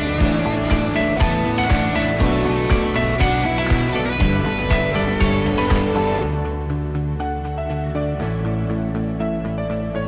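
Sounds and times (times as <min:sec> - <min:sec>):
instrumental chords over light beat: 0:00.0 - 0:10.0.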